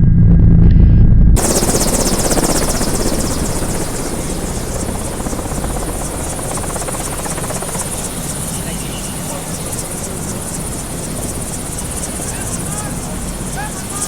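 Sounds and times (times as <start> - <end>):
helicopter engine whine: 1.4 - 14.0
helicopter rotor beating: 1.4 - 14.0.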